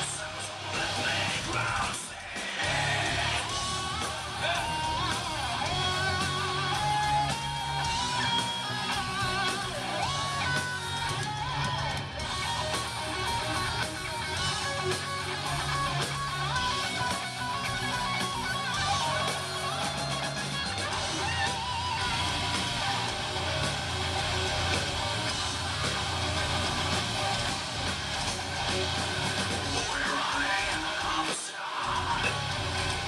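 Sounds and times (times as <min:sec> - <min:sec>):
metal band playing: 0:00.0 - 0:33.0
bending lead guitar line: 0:02.6 - 0:31.1.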